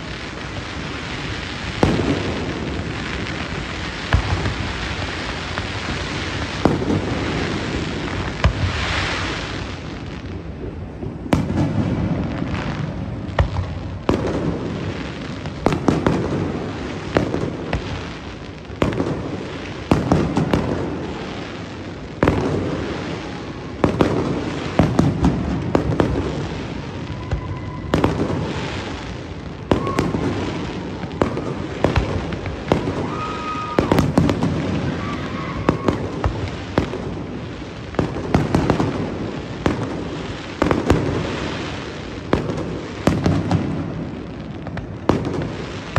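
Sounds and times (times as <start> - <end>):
fireworks whistling: 0.0 - 10.5, 11.1 - 45.9
fireworks bursting: 0.0 - 45.9.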